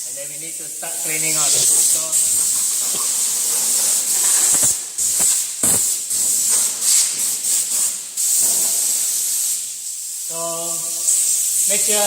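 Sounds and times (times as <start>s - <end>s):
compressed air hissing bursts: 0.5s - 12.0s.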